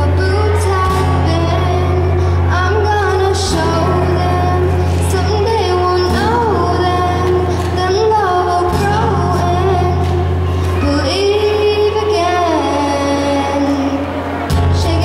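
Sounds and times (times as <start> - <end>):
acoustic guitar: 0.0 - 15.0
girl singing pop song: 0.0 - 15.0.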